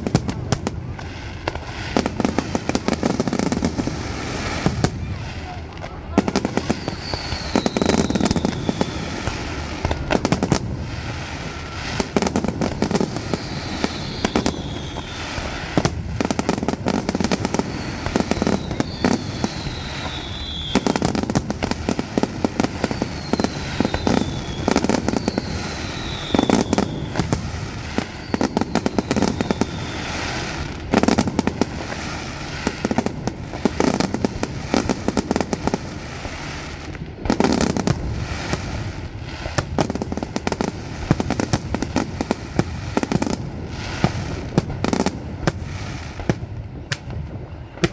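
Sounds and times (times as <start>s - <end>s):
falling firework whistles: 0.0s - 47.9s
fireworks bangs and crackling: 0.0s - 47.9s.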